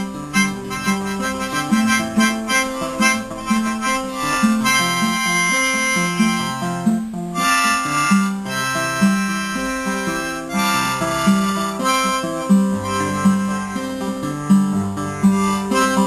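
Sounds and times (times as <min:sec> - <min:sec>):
acoustic guitar: 0:00.0 - 0:16.0
harmonica melody: 0:00.0 - 0:16.0.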